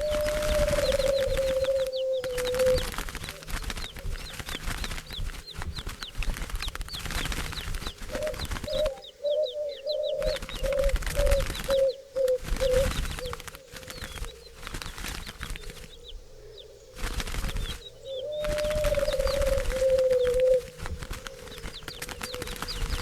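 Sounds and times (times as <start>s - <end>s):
birds chirping: 0.0s - 23.0s
dove cooing: 0.0s - 23.0s
wings fluttering: 0.0s - 23.0s.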